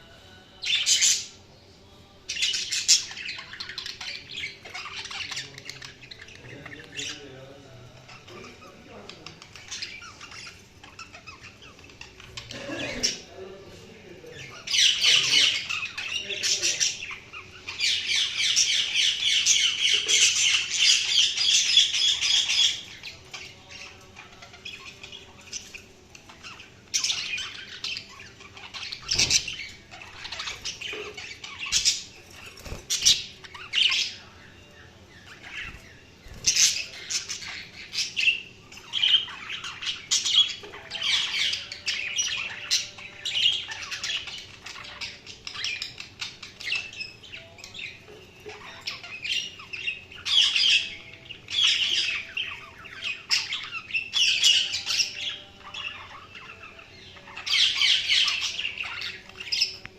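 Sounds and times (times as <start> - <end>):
budgerigars chattering and squawking: 2.3 - 59.9.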